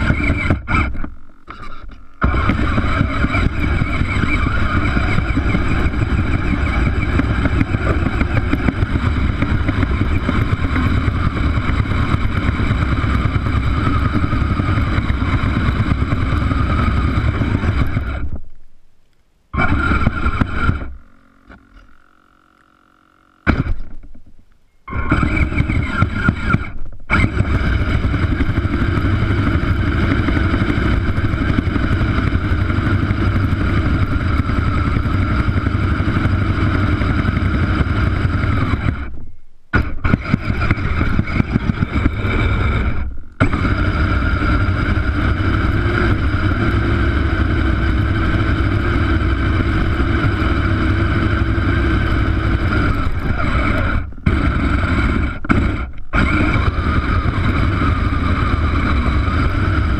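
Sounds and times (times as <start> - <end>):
plow blade pushing snow: 0.0 - 18.3, 19.6 - 22.0, 24.9 - 59.9
small vehicle engine running: 0.0 - 18.4, 19.5 - 24.2, 24.9 - 59.9.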